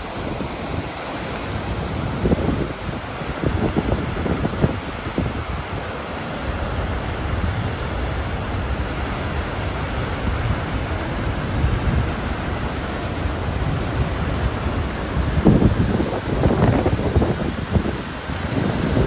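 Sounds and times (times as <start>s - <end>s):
waterfall rushing: 0.0s - 19.0s
wind on microphone: 0.0s - 19.0s.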